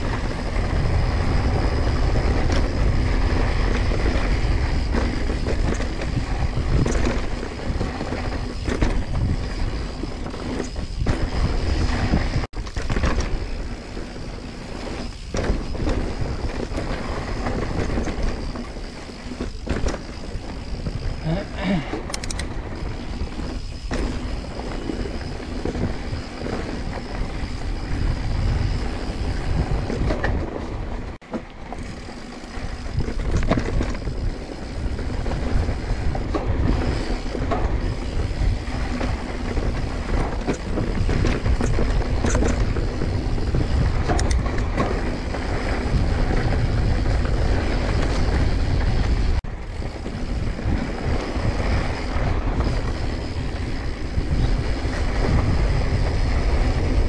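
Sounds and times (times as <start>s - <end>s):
bike tyre noise: 0.0s - 57.0s
wind buffeting microphone: 0.0s - 57.0s.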